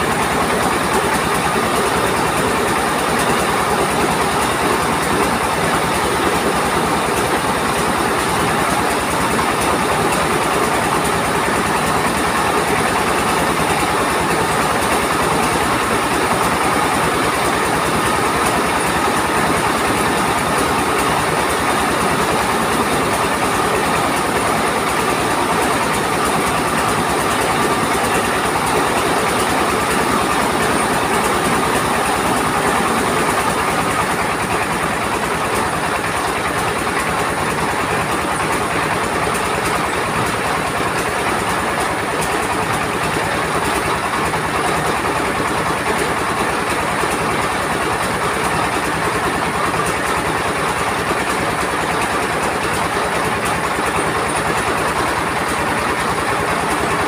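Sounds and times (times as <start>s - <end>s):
rice mill engine running: 0.0s - 57.0s.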